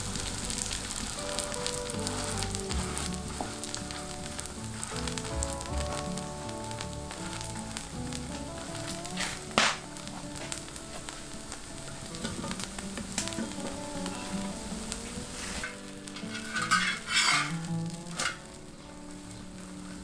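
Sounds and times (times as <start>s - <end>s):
batter sizzling in hot oil: 0.0s - 20.0s
soft background music: 0.0s - 20.0s.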